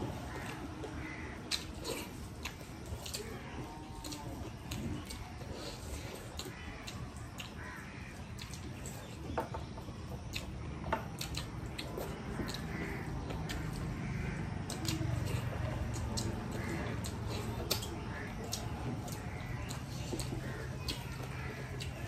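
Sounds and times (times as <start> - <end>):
chewing and mouth sounds: 0.0 - 22.0.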